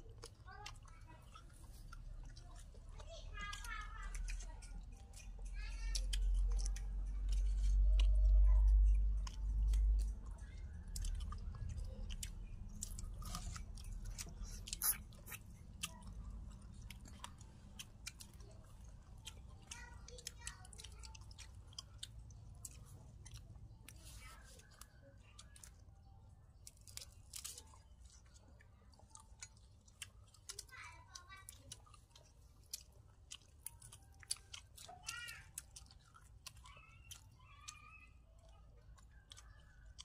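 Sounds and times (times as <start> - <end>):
people chewing food: 0.0 - 40.0.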